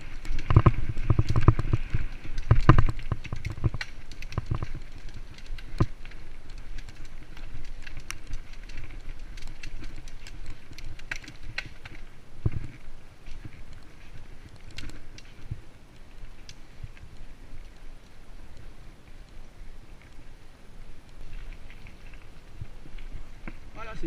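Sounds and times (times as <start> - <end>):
bike tyres on dirt: 0.0 - 24.0.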